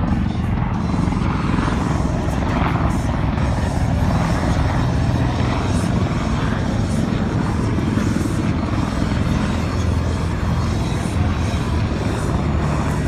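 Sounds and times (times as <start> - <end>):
helicopter rotor beating: 0.0 - 13.0.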